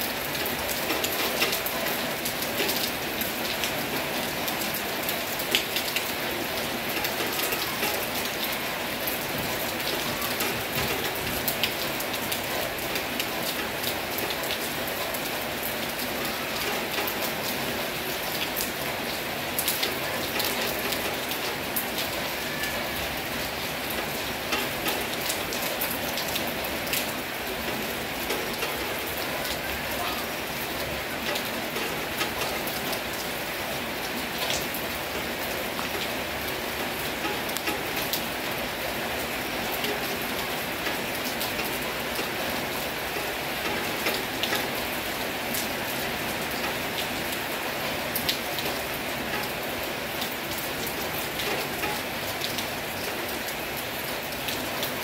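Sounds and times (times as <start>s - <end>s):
heavy rain: 0.0s - 55.0s
raindrops tapping a surface: 0.1s - 55.0s.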